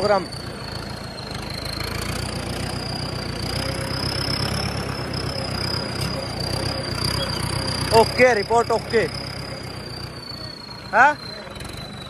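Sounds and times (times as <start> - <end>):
high-pitched whine: 0.0 - 12.0
tractor diesel engine running: 0.0 - 12.0.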